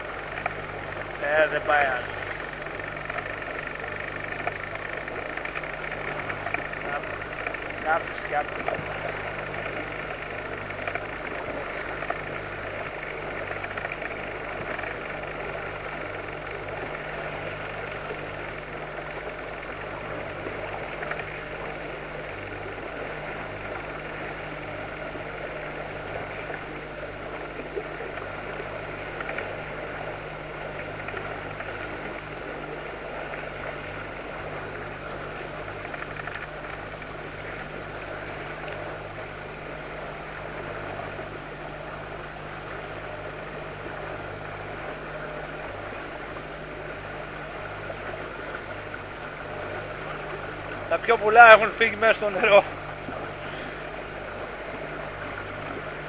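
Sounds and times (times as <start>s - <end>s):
outboard motor running: 0.0s - 56.0s
water rushing past hull: 0.0s - 56.0s.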